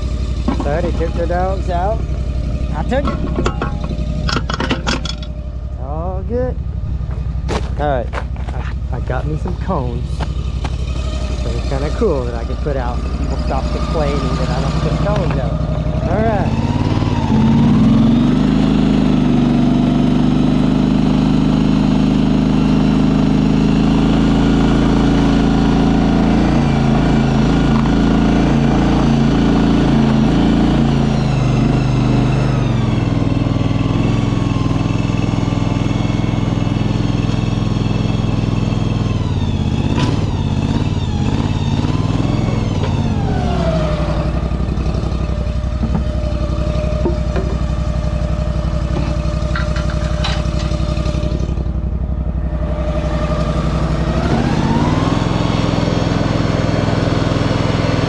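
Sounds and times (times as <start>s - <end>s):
higher whine: 0.0s - 58.0s
small engine running: 0.0s - 58.0s.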